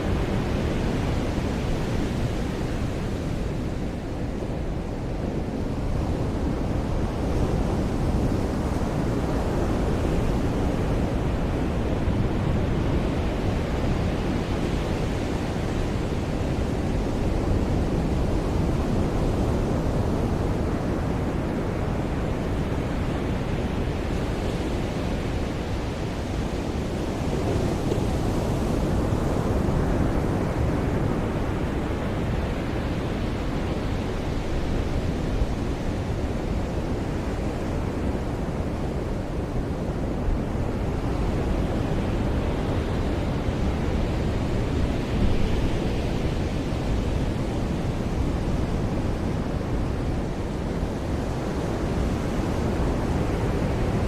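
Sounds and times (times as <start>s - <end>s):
ocean surf washing onto beach: 0.0s - 54.0s.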